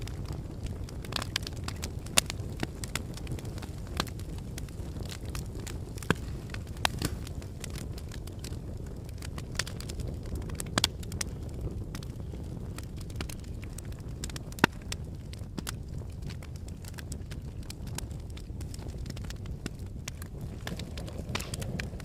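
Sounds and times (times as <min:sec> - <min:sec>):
sharp cracks and pops: 0:00.0 - 0:22.0
volcano low rumble: 0:00.0 - 0:22.0.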